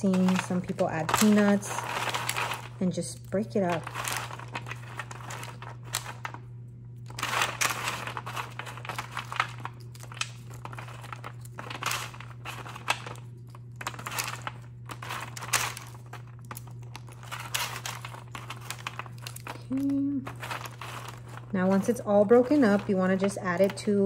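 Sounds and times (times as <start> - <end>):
chocolate slab cracking: 0.0 - 6.4, 7.0 - 24.0
parchment paper crinkling: 0.0 - 24.0
steady low hum: 0.0 - 24.0.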